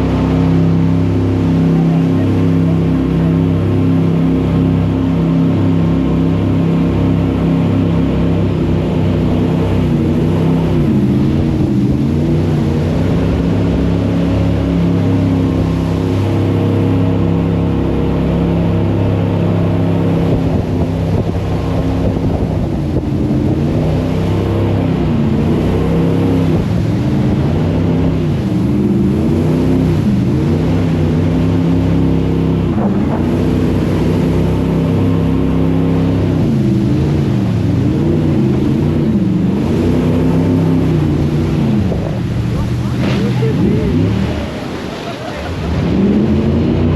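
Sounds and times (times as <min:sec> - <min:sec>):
boat engine running hard: 0:00.0 - 0:46.9.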